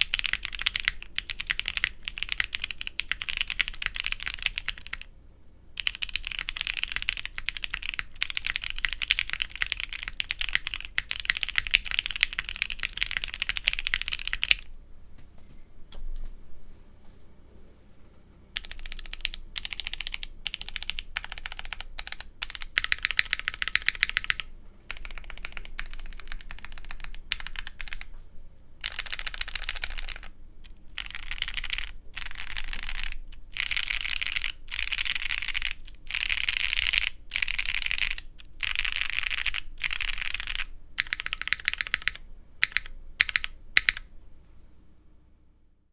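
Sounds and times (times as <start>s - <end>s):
mechanical keyboard typing: 0.0s - 5.1s, 5.8s - 14.7s, 18.6s - 28.1s, 28.8s - 44.1s.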